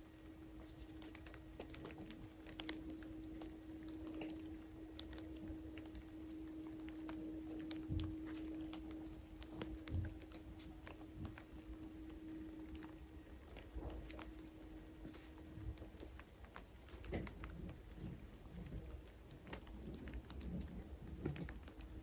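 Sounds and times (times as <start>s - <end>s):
steady low hum: 0.0s - 22.0s
faint ticks: 0.1s - 22.0s.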